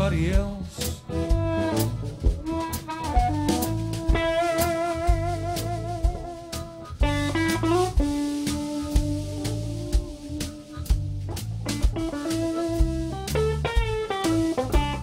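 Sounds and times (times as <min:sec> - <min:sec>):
blues band playing live: 0:00.0 - 0:15.0
wavering electric guitar lead: 0:00.0 - 0:15.0.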